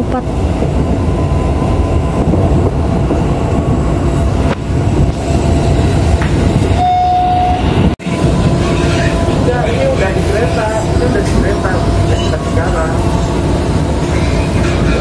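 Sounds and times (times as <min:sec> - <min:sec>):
train rumble and wheel noise: 0:00.0 - 0:15.0.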